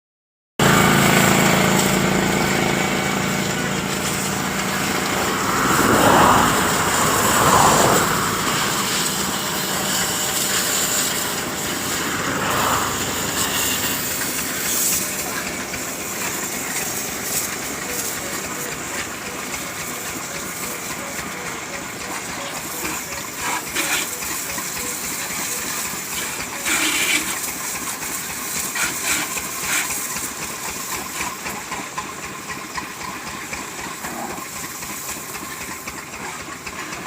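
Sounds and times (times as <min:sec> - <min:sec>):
engine hum: 0:00.6 - 0:37.0
water spraying from hose: 0:00.6 - 0:37.0.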